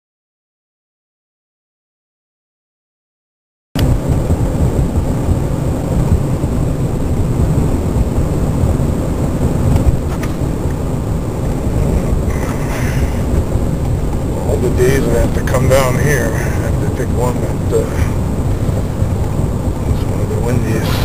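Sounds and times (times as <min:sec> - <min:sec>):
road and wind noise: 0:03.8 - 0:21.0.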